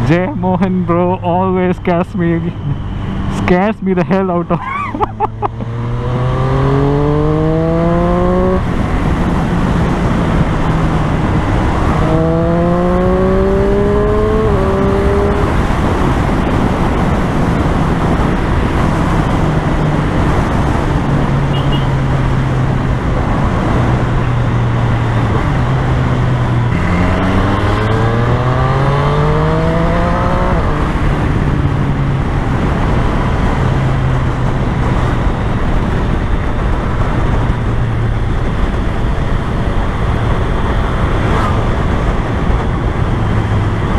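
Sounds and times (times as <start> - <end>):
wind and road noise: 0.0 - 43.9
motorcycle engine accelerating: 5.0 - 43.9.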